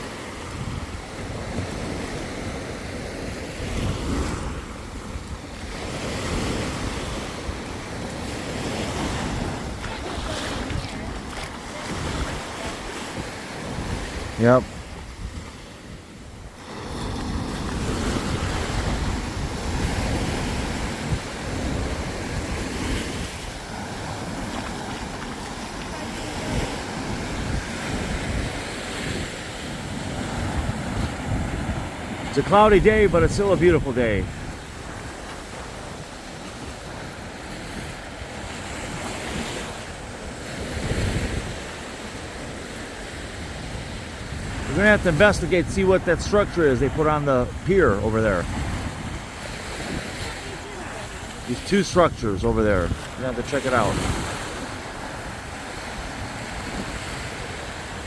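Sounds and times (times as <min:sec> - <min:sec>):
wind buffeting microphone: 0:00.0 - 0:02.6, 0:03.6 - 0:58.0
surf washing onto beach: 0:00.0 - 0:58.0.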